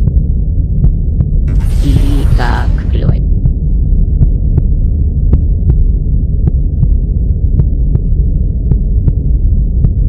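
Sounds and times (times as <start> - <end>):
muffled bass music: 0.0 - 10.0.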